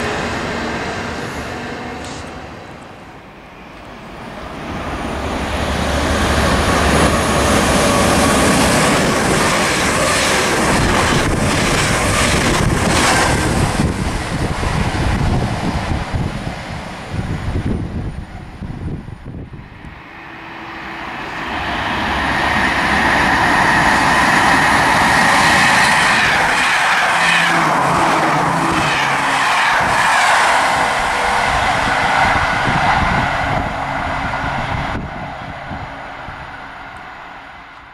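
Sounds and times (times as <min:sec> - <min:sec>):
passenger train passing at speed: 0:00.0 - 0:37.9.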